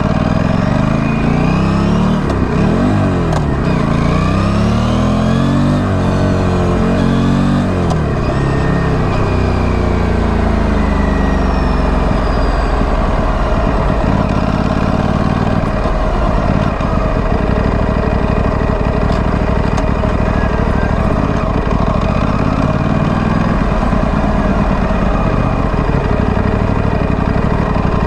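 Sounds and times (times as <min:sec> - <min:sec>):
motorcycle engine exhaust: 0:00.0 - 0:28.0.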